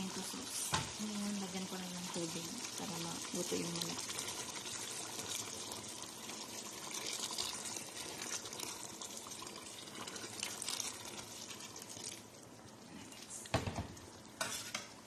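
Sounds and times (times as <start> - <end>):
water pouring into a pot: 0.0 - 15.0.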